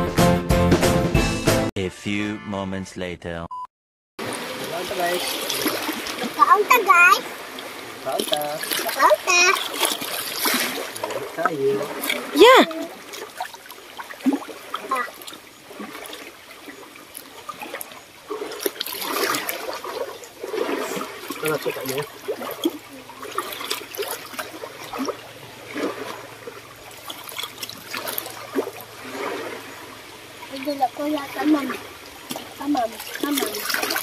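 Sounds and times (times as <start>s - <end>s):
sea water washing among rocks: 4.2s - 34.0s.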